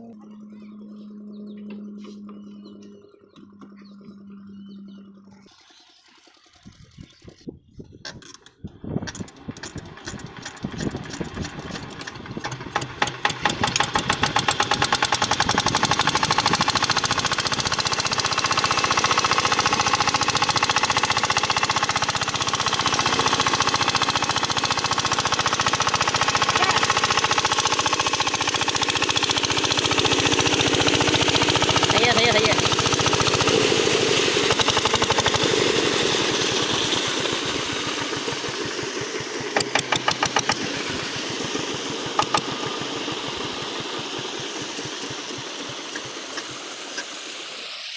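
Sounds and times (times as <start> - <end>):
diesel pump engine starting: 0.0 - 47.9.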